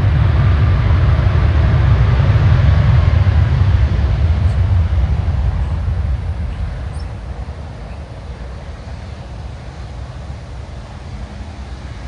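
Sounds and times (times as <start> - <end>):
faint engine whine: 0.0 - 12.0
jet engines deep rumble: 0.0 - 12.0.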